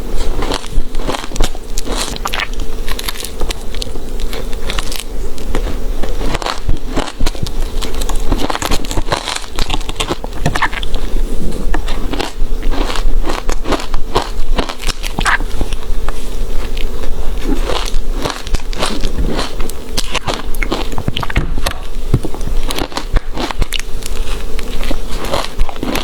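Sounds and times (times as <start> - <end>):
faint steady hum: 0.0 - 26.0
ice crunching in mouth: 0.0 - 26.0.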